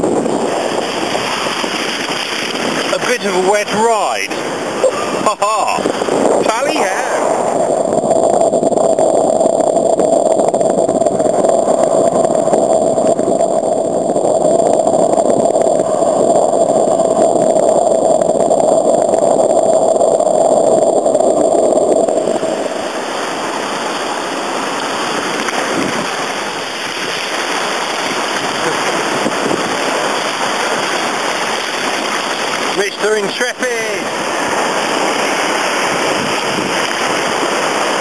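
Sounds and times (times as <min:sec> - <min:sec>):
surf rushing around kayaks: 0:00.0 - 0:38.0.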